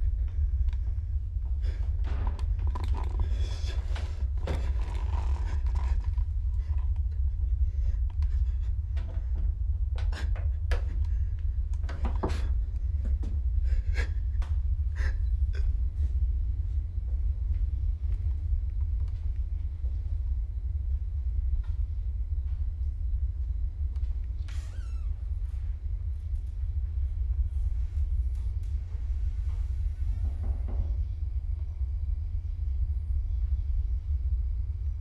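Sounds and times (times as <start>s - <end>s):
low rumble: 0.0s - 35.0s.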